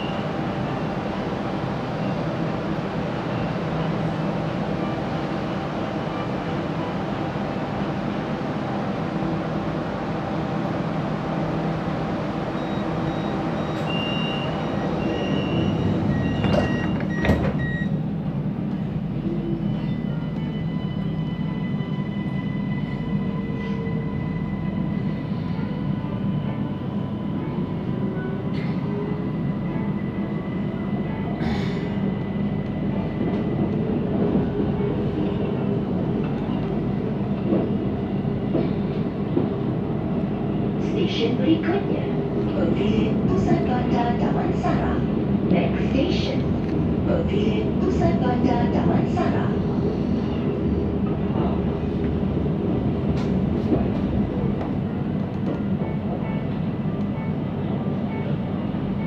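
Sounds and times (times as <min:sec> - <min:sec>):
metro train rolling rumble: 0:00.0 - 0:59.0.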